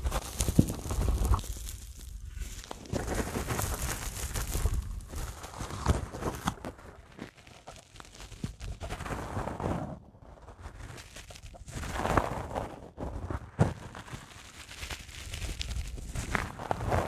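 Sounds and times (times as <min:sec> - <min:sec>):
dry sponge crackling: 0:00.0 - 0:09.8, 0:10.5 - 0:17.0.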